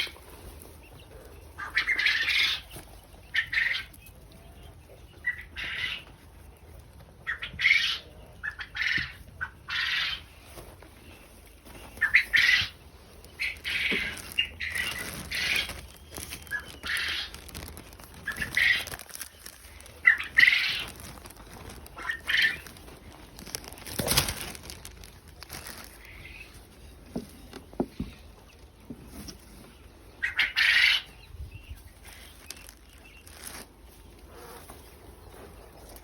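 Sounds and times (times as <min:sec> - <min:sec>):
quail squawking: 0:01.0 - 0:06.2, 0:07.2 - 0:24.3, 0:25.7 - 0:26.7, 0:29.3 - 0:36.0.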